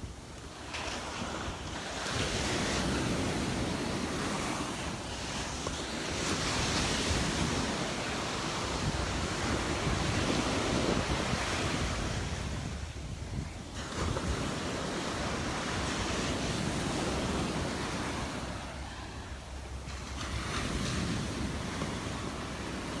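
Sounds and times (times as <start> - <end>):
surf breaking on beach: 0.0 - 23.0
wind rumbling on microphone: 0.0 - 23.0.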